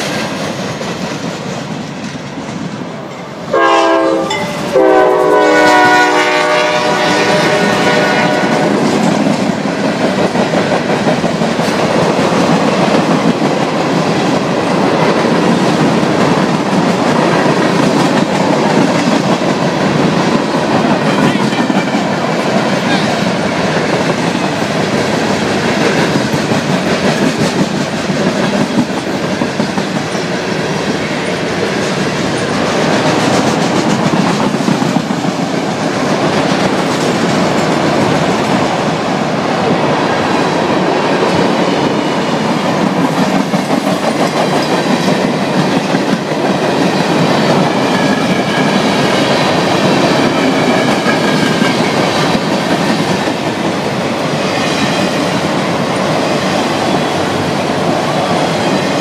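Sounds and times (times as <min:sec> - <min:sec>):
train wheels rumbling over rails: 0:00.0 - 0:59.0.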